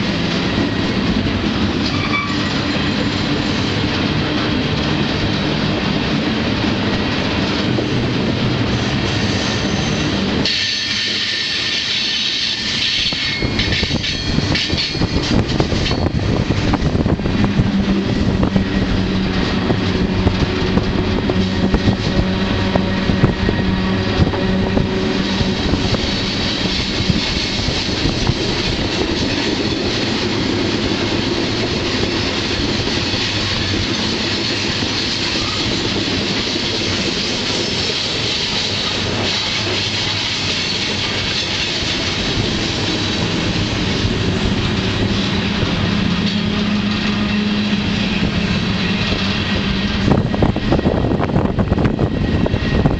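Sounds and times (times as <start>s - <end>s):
train wheels clickety-clack: 0.0s - 52.9s.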